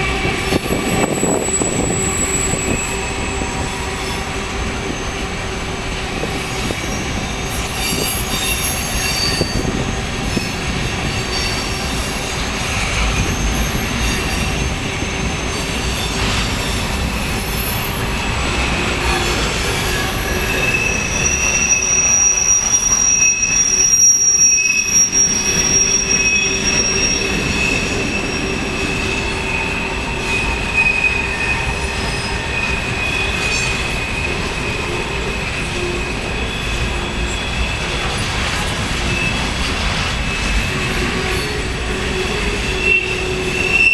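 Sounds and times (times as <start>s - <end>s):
freight train rumbling past: 0.0s - 43.9s
wheels squealing on rails: 0.0s - 43.9s.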